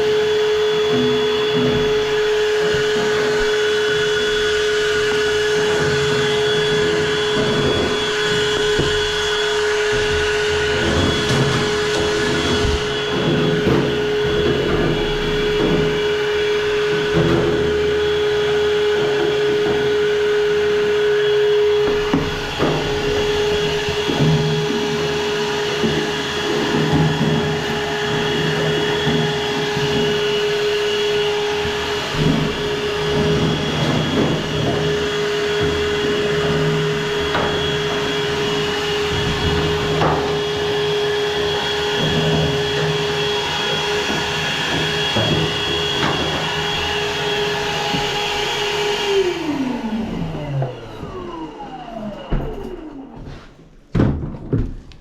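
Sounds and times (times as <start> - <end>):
vacuum cleaner motor whine: 0.0 - 53.8.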